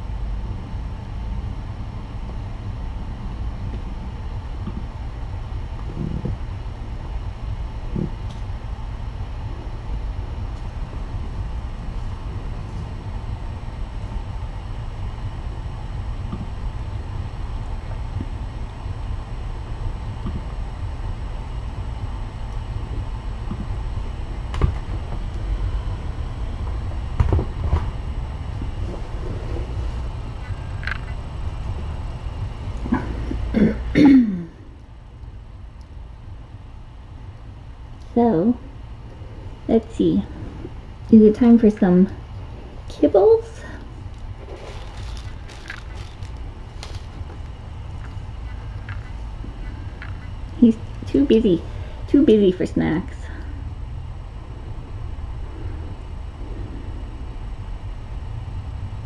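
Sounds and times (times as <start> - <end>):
low room rumble: 0.0 - 59.0.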